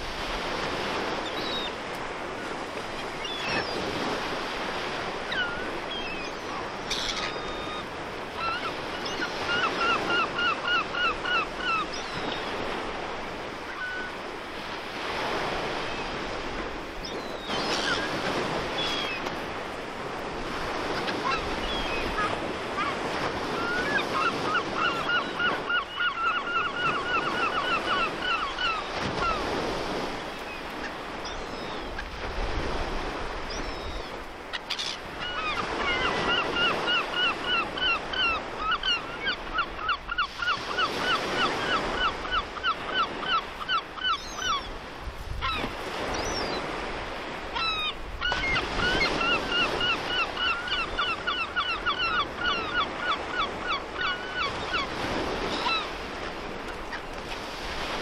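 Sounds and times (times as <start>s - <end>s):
sea surf: 0.0s - 58.0s
wind: 0.0s - 58.0s.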